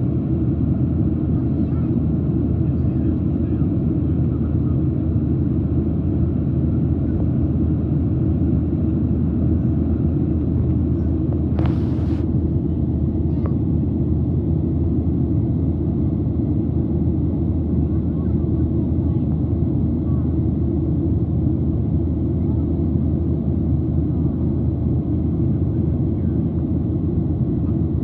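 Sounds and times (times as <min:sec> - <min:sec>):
airplane cabin drone: 0:00.0 - 0:28.0.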